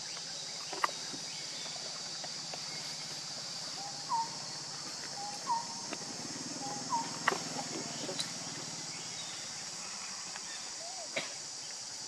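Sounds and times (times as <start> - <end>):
high drone of insects: 0.0 - 12.0.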